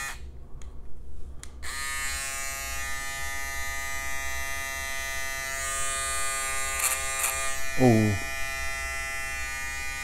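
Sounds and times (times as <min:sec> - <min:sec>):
electric shaver motor buzzing: 0:00.0 - 0:00.2, 0:01.6 - 0:10.0.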